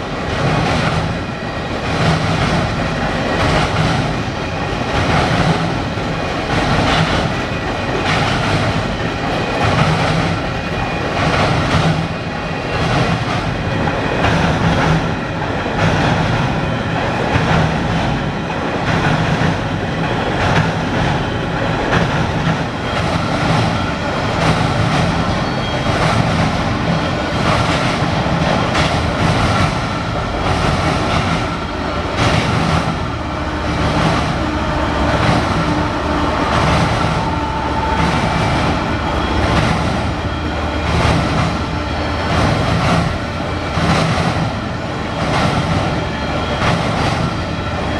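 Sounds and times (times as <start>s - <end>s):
freight train rolling past: 0.0s - 47.9s
train wheels clicking over rail joints: 0.0s - 47.9s.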